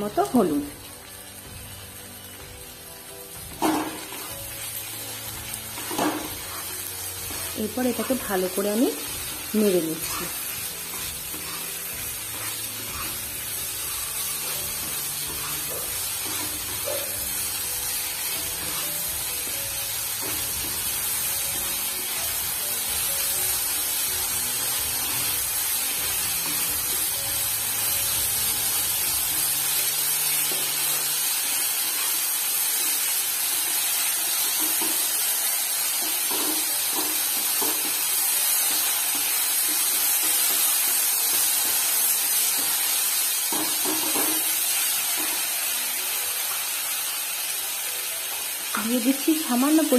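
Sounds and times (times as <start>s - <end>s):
potato strips sizzling in oil: 0.0s - 49.9s.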